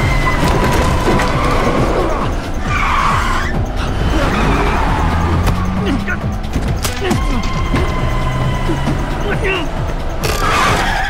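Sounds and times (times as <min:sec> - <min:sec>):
car engines revving: 0:00.0 - 0:11.0
dramatic background music: 0:00.0 - 0:11.0
tyres squealing: 0:00.0 - 0:11.0.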